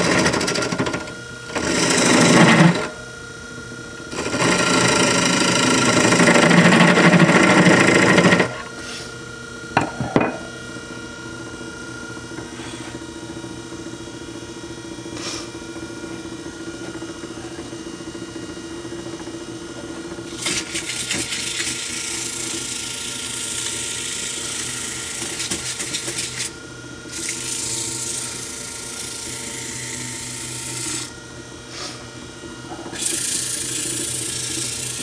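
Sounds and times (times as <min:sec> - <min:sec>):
wood lathe motor hum: 0:00.0 - 0:08.8, 0:14.8 - 0:35.0.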